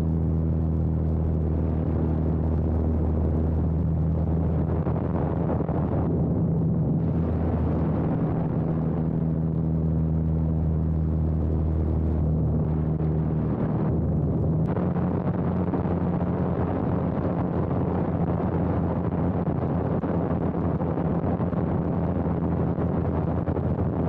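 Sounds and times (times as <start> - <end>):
plane engine running: 0.0 - 24.0
wind rush on microphone: 0.0 - 24.0.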